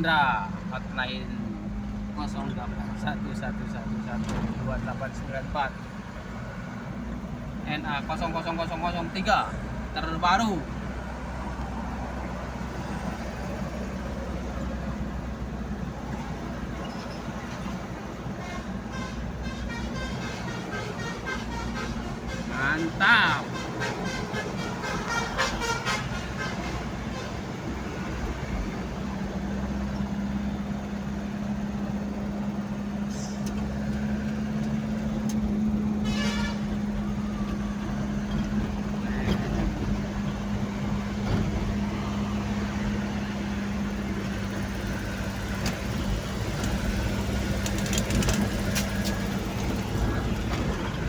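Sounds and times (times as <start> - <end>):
tyre and road noise: 0.0 - 51.0
vehicle engine drone: 0.0 - 51.0.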